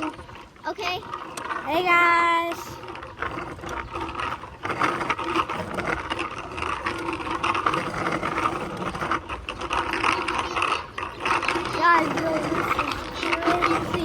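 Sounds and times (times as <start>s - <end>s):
bicycle wheels whirring and rattling: 0.0s - 14.0s.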